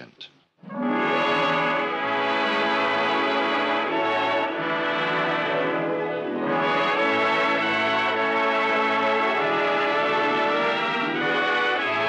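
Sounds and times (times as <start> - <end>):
orchestral music with brass chords: 0.6 - 12.0.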